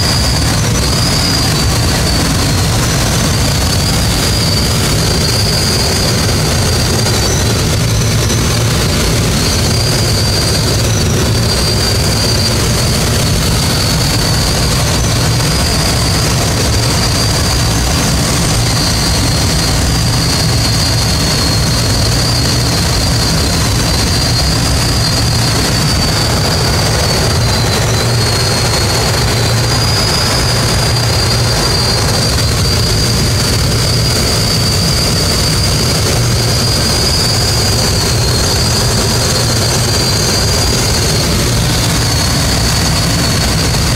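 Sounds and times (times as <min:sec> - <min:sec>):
droning propeller engine: 0:00.0 - 0:43.9
thin high whistle: 0:00.0 - 0:43.9
wind rush: 0:00.0 - 0:43.9.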